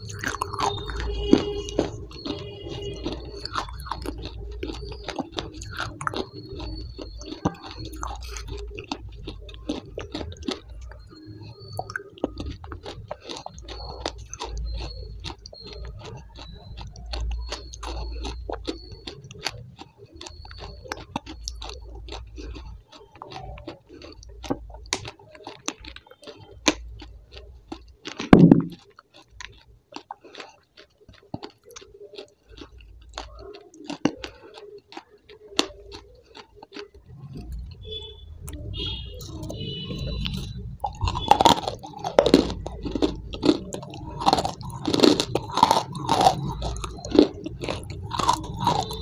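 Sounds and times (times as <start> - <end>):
mouth clicks: 0.0 - 49.0
person chewing and crunching food: 0.0 - 49.0.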